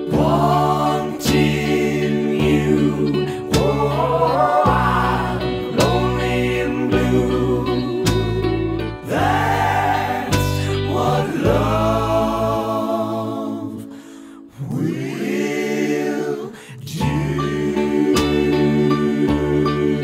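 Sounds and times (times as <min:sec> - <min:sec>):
backing vocal harmonies: 0:00.0 - 0:20.0
bass: 0:00.0 - 0:20.0
lead voice singing slow song: 0:00.0 - 0:20.0.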